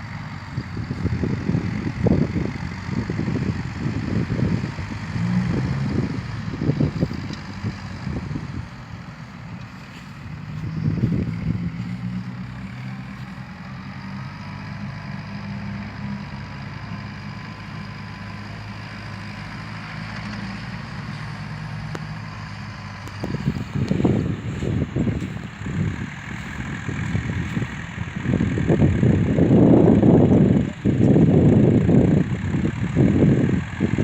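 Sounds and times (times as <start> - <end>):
diesel truck engine running: 0.0 - 34.0.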